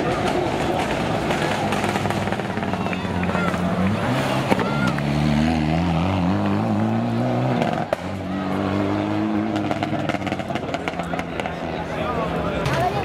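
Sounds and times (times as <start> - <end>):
rally car engine accelerating: 0.0 - 12.6.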